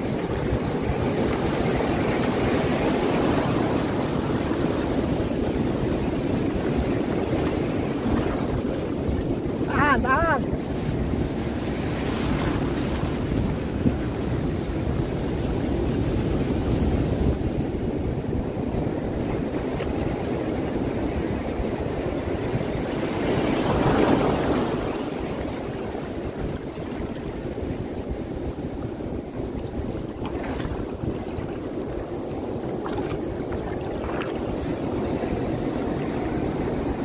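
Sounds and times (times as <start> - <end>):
waves breaking on beach: 0.0 - 37.0.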